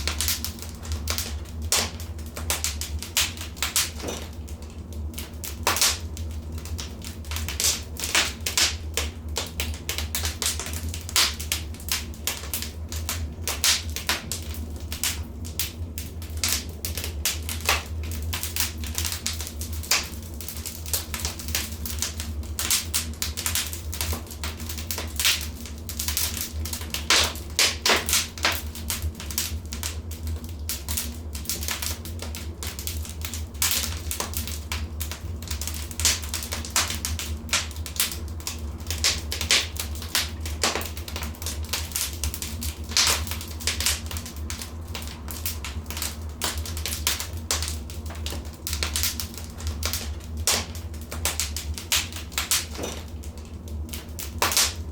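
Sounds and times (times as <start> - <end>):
wood fire crackling and popping: 0.0 - 54.9.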